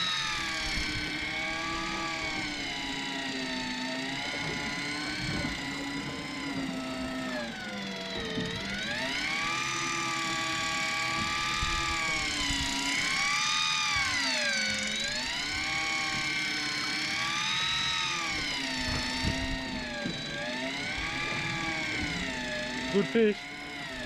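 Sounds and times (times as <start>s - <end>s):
electric reel motor whining: 0.0s - 24.0s.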